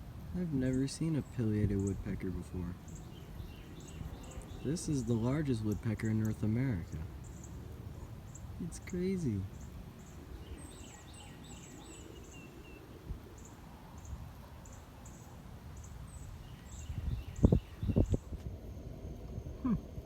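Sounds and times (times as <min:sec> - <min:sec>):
birds singing: 0:00.0 - 0:18.4.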